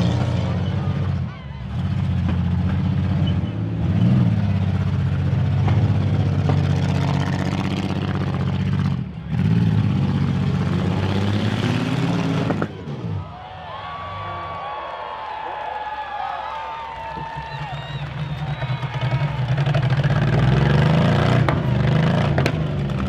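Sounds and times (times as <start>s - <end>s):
car engines revving: 0.0s - 14.6s, 16.9s - 23.0s.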